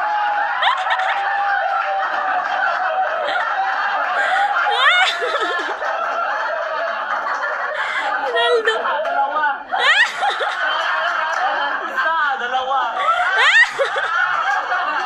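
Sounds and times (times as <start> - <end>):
men laughing together: 0.0 - 15.0.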